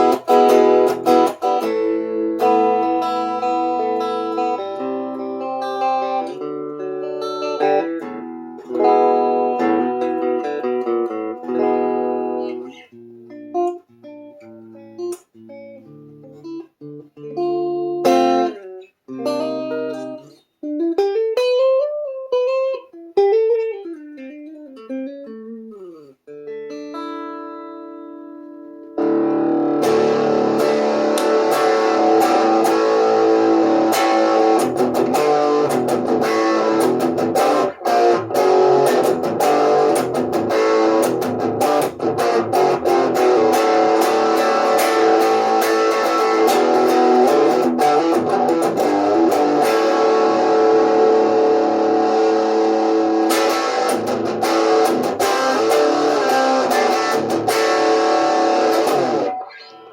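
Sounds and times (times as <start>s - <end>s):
electric guitar strummed and picked: 0.0s - 59.9s.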